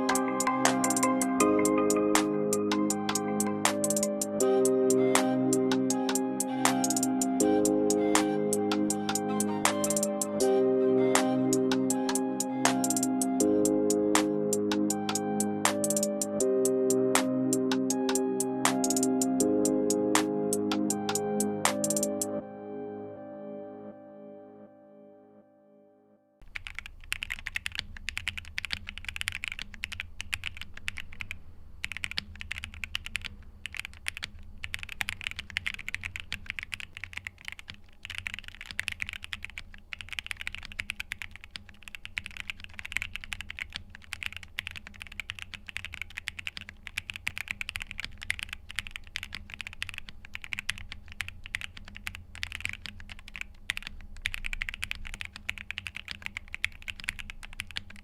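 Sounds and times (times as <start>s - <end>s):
mechanical keyboard typing: 0.0s - 4.4s, 5.2s - 10.4s, 11.6s - 13.4s, 14.2s - 16.5s, 17.2s - 19.5s, 20.2s - 22.3s, 26.4s - 58.0s.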